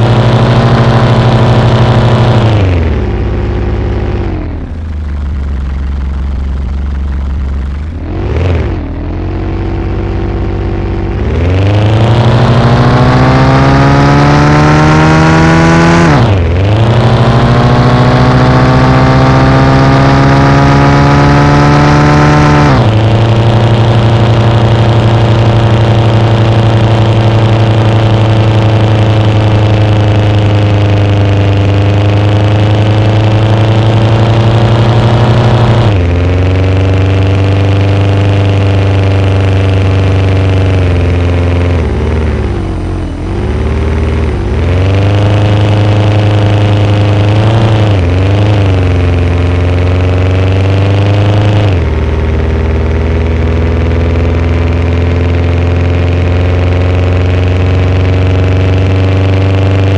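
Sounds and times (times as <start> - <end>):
pickup engine revving: 0.0 - 59.9.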